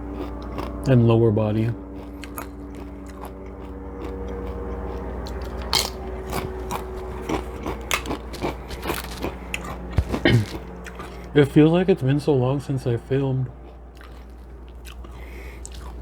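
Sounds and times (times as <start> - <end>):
chewing and crunching food: 0.0 - 16.0
faint steady hum: 0.0 - 16.0.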